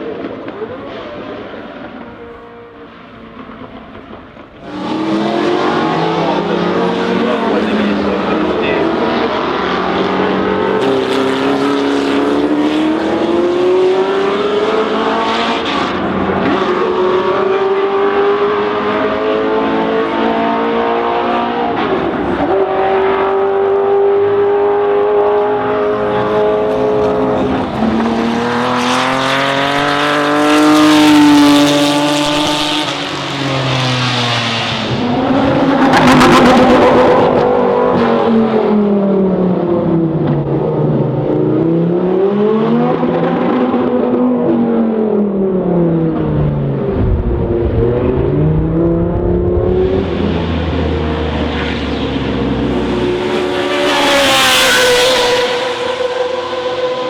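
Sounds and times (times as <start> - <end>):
racing car engines: 0.0 - 57.0
racing cars passing close: 0.0 - 57.0.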